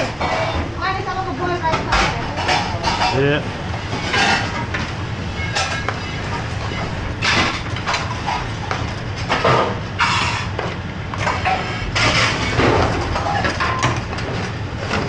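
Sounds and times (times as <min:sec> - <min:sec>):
gas range low rumble: 0:00.0 - 0:15.0.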